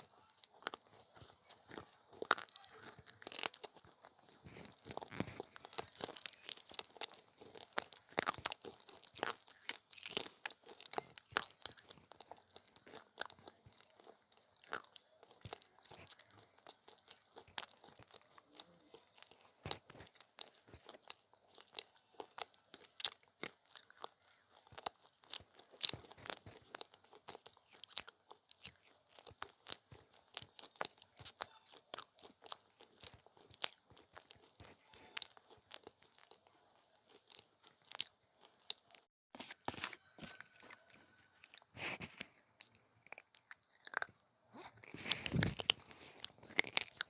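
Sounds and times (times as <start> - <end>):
chewing crunchy clay: 0.0 - 47.0.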